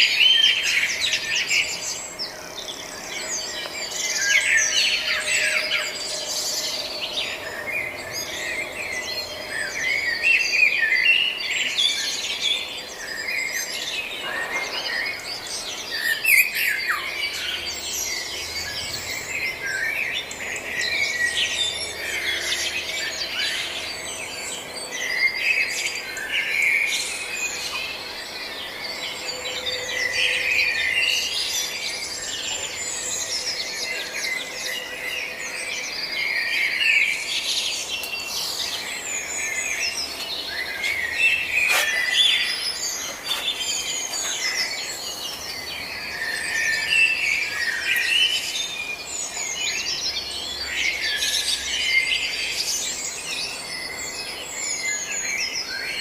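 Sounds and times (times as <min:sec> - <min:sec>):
birds chirping chorus: 0:00.0 - 0:56.0.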